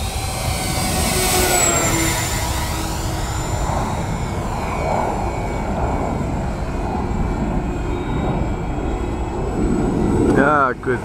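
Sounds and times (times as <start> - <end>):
model plane motors whining: 0.0 - 11.0.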